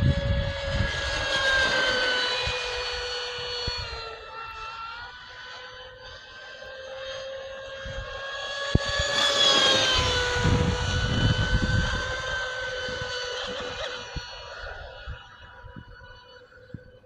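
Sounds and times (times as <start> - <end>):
electric motor whining: 0.0 - 17.0
low rumbling noise: 0.0 - 17.0.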